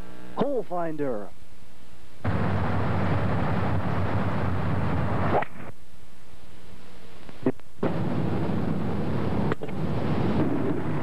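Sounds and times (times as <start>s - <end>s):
faint hiss with hum: 0.0s - 11.0s.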